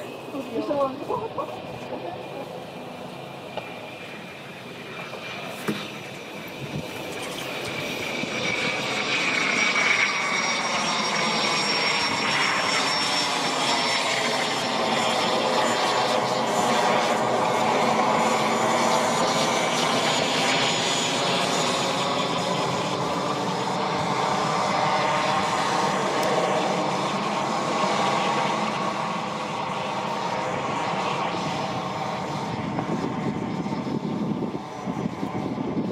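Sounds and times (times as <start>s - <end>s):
jet engines whining: 0.0s - 35.9s.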